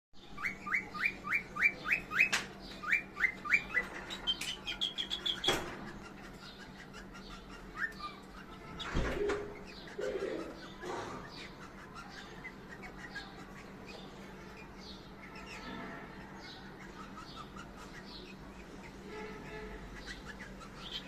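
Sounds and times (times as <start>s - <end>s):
cockatiels chirping: 0.2s - 21.0s.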